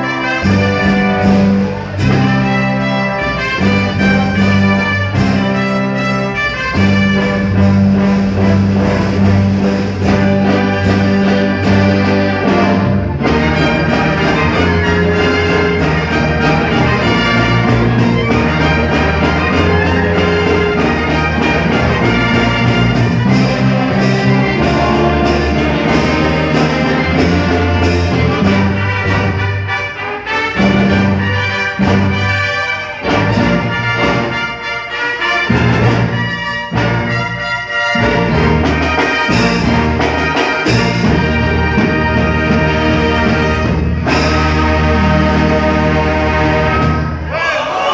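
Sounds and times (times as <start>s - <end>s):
brass band playing: 0.0s - 47.9s
steady drum beat: 0.4s - 34.8s, 35.4s - 46.8s.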